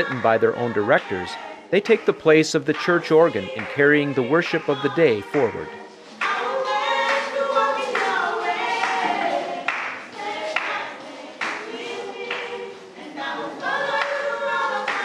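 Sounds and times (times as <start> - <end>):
youth choir singing: 0.0 - 15.0.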